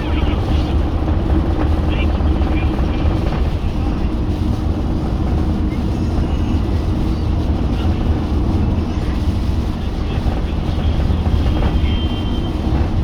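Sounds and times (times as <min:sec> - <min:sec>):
car driving on motorway: 0:00.0 - 0:13.0.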